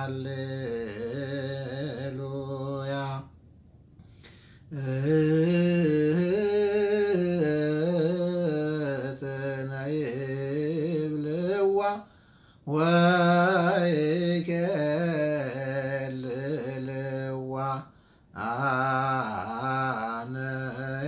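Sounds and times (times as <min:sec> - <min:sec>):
man chanting solo: 0:00.0 - 0:03.3, 0:04.7 - 0:12.1, 0:12.7 - 0:21.0.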